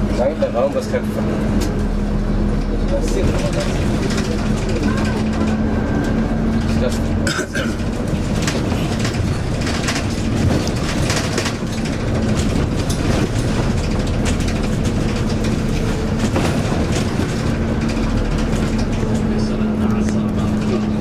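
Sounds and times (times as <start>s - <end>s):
bus engine and road noise: 0.0s - 21.0s
bus fittings rattling and clicking: 0.0s - 21.0s.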